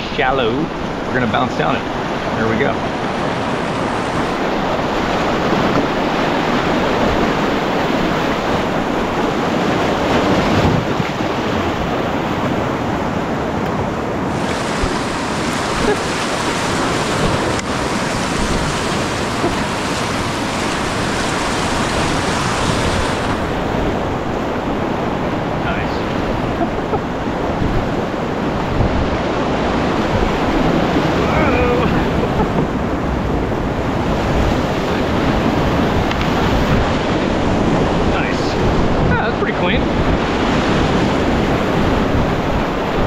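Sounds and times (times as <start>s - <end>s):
whitewater rushing: 0.0s - 43.0s.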